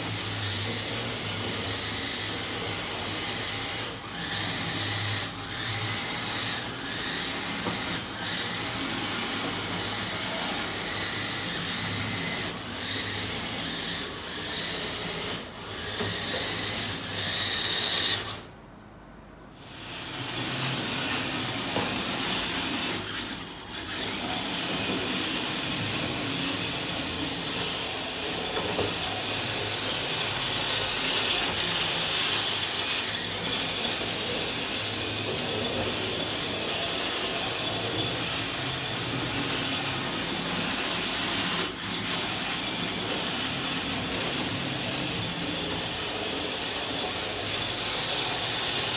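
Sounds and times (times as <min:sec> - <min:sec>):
model locomotive motor whirring: 0:00.0 - 0:18.4, 0:19.6 - 0:48.9.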